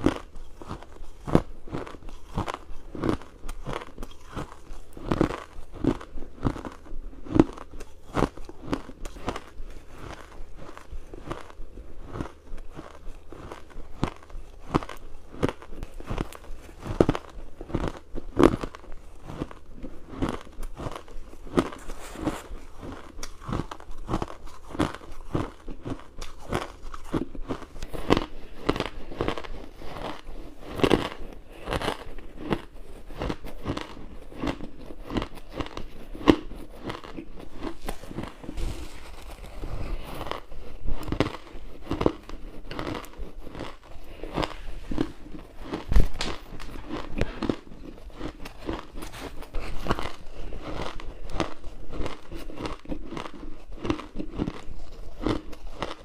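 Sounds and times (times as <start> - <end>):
ice being crunched and chewed: 0.0 - 56.0.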